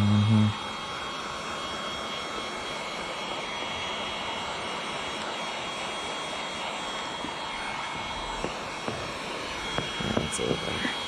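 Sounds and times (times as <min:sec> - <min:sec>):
heat gun blower hiss and whine: 0:00.0 - 0:11.0.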